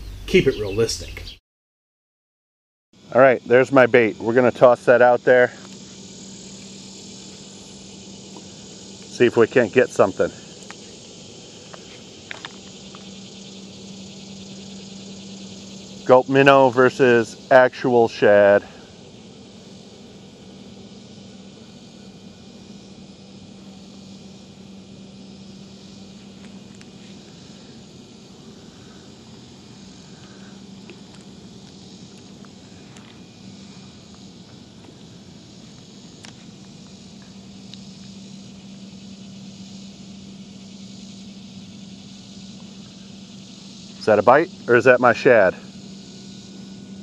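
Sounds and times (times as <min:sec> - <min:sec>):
background hiss: 0:00.0 - 0:01.4, 0:03.0 - 0:47.0
low hum: 0:03.1 - 0:47.0.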